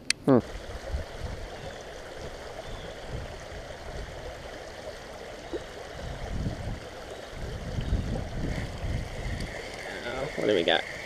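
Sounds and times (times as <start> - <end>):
low rumbles: 0.4 - 9.9
creek rushing over rocks: 0.4 - 11.0.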